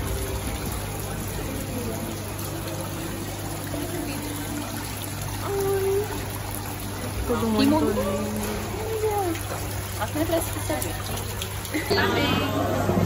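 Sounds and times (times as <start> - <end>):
fountain water trickling and splashing: 0.0 - 13.0.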